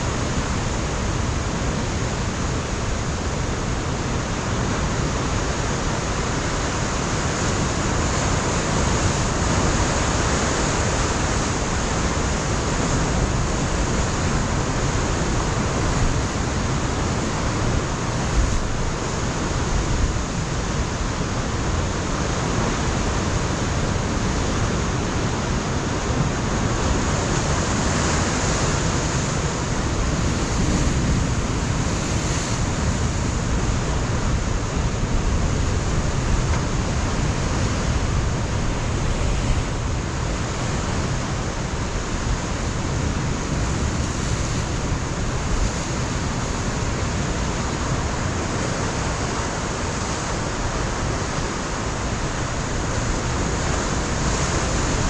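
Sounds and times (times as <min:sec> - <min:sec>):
surf crashing on rocks: 0:00.0 - 0:55.0.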